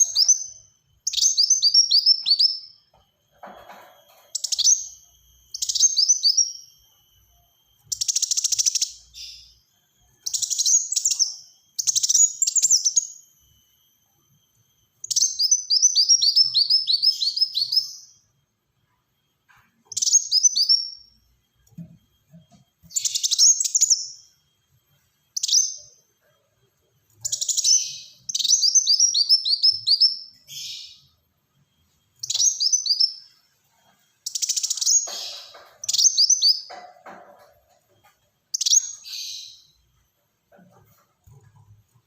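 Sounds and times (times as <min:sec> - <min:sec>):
sunbird singing: 0:00.0 - 0:03.1, 0:04.1 - 0:18.4, 0:19.7 - 0:21.2, 0:22.8 - 0:24.6, 0:25.3 - 0:31.2, 0:32.2 - 0:39.9.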